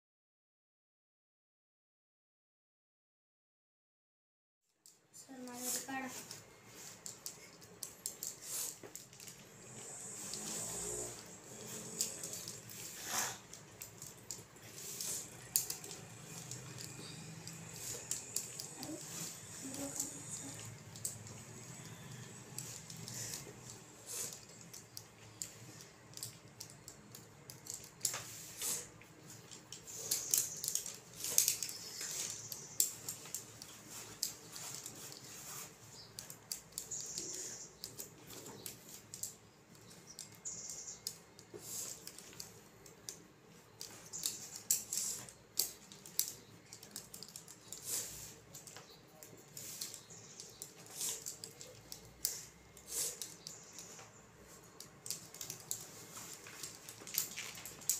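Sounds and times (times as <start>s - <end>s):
abacus beads clicking: 4.8s - 57.9s.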